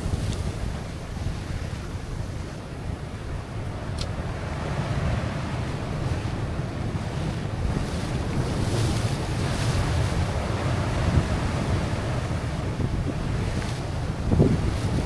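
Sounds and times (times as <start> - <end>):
sea waves washing against rocks: 0.0 - 15.0
wind buffeting microphone: 0.0 - 15.0.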